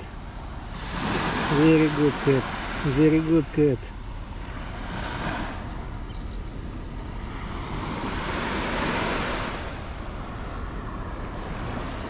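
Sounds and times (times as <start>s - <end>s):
sea waves washing on shore: 0.0s - 12.0s
wind rumble on microphone: 0.0s - 12.0s.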